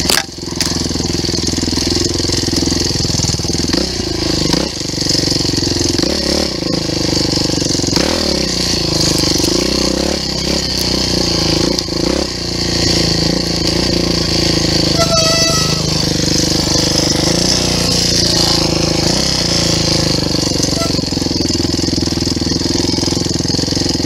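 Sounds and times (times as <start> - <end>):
engine revving under load: 1.8 - 24.0.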